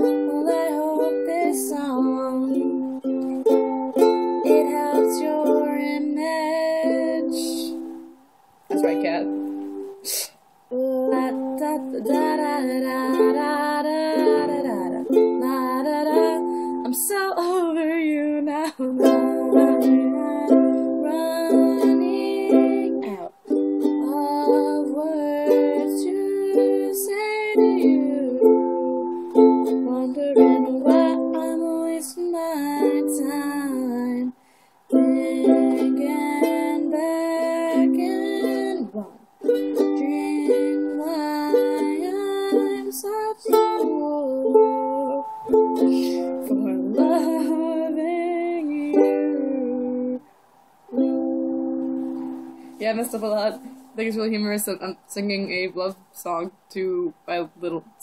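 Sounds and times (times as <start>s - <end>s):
woman singing: 0.0s - 8.0s, 10.7s - 50.3s, 52.7s - 58.0s
ukulele strumming: 0.0s - 50.3s, 50.9s - 58.0s.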